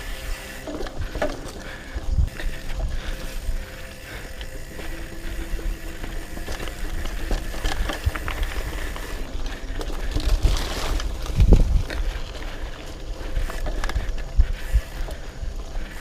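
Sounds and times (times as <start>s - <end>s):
bike rattling: 0.0s - 16.0s
tyres on loose dirt: 0.0s - 16.0s
wind buffeting microphone: 0.0s - 16.0s.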